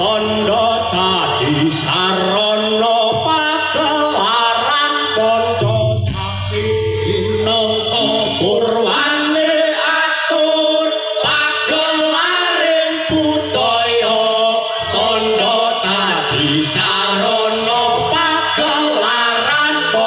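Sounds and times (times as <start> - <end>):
men singing a chant-like melody: 0.0 - 20.0.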